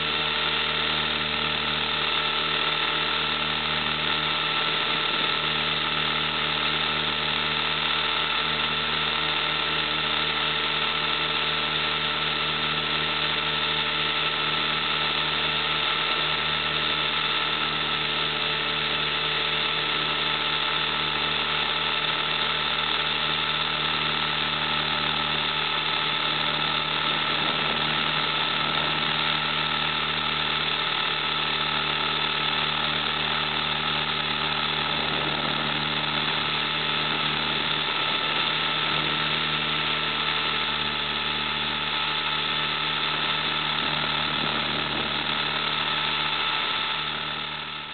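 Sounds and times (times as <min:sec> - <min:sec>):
drone rotors buzzing: 0:00.0 - 0:47.9.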